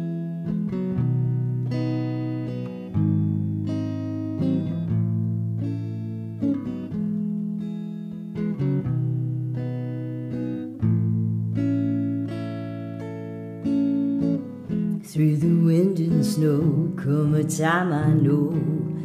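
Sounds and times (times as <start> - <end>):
clean electric guitar chords: 0.0 - 19.0.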